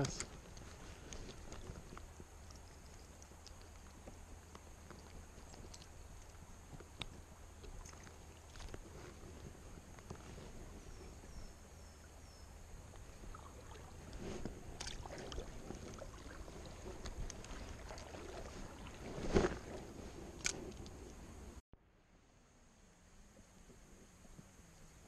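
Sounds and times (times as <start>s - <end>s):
river water splashing: 0.2s - 20.9s.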